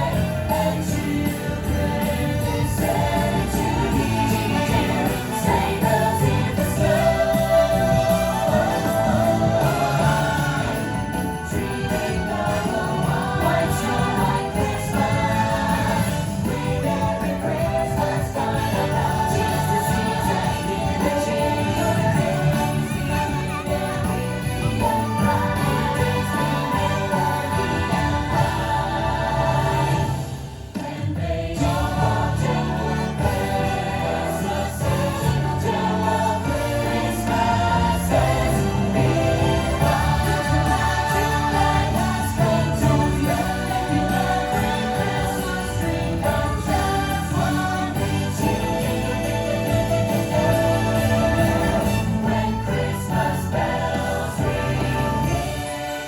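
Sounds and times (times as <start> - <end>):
sleigh bells ringing: 0.0 - 30.6, 31.5 - 56.0
choir singing: 0.0 - 56.0.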